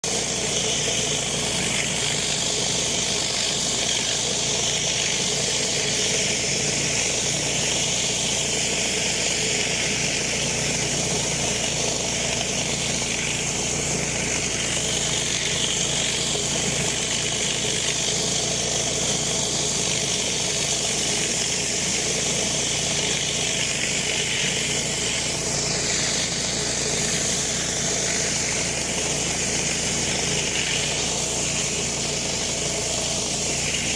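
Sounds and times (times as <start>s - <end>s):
high-pressure water spray hiss: 0.0s - 33.9s
pressure washer engine drone: 0.0s - 33.9s.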